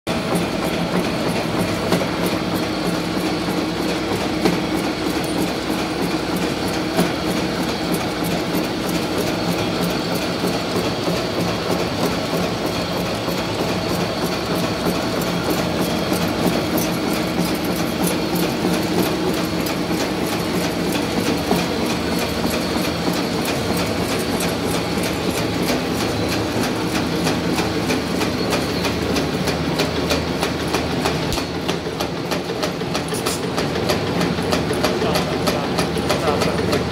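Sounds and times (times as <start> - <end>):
machine hum: 0.1 - 36.9
wrapping machine clatter: 0.1 - 36.9.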